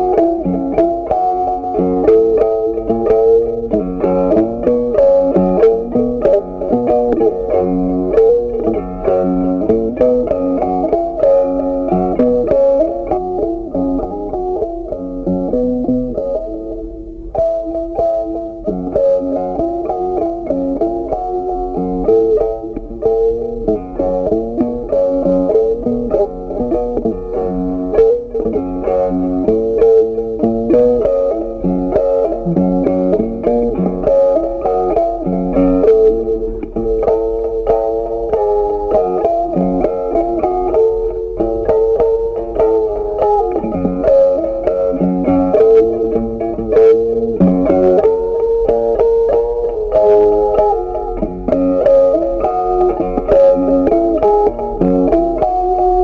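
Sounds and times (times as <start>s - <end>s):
plucked guitar tune: 0.0s - 56.0s.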